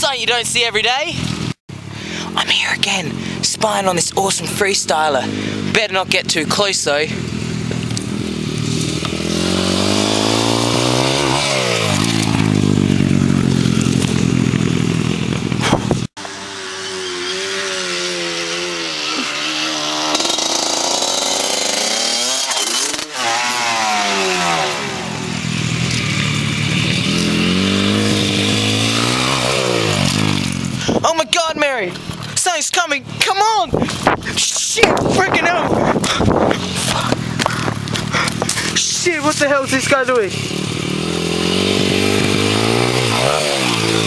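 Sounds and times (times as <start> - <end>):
dirt bike engine revving: 0.0 - 32.4, 33.1 - 44.0.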